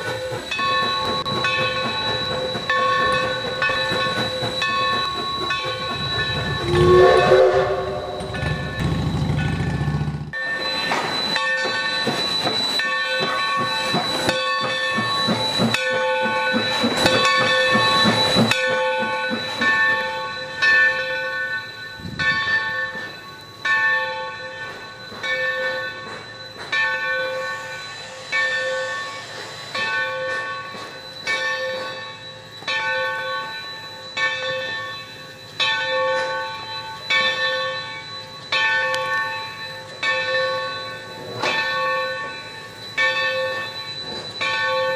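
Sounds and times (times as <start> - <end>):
clanking train noise: 0.0 - 44.9
steam locomotive bell ringing: 0.0 - 44.9.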